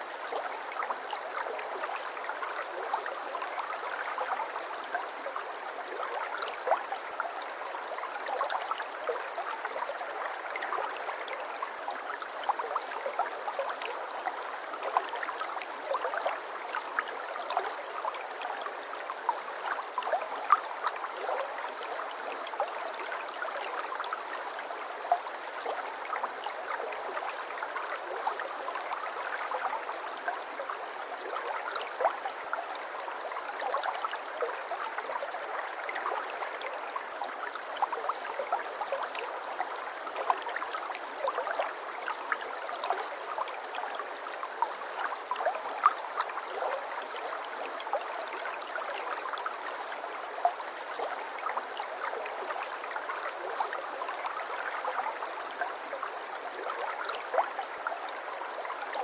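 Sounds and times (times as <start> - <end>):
brook babbling over stones: 0.0 - 59.0.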